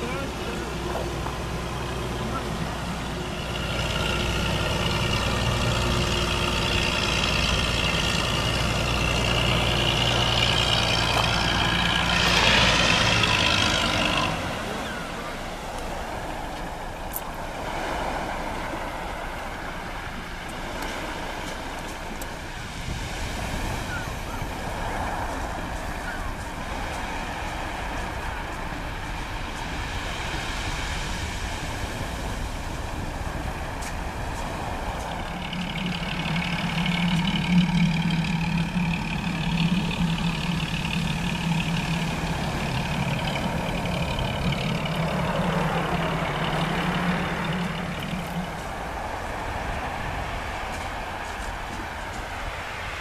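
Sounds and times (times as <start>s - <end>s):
heavy engine running: 0.0s - 53.0s.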